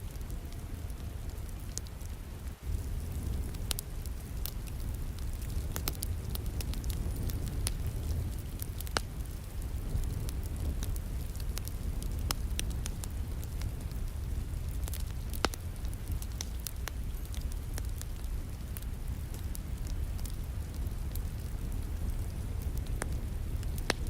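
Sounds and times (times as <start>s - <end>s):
steady low rumble: 0.0s - 24.0s
wood fire crackling: 0.0s - 24.0s.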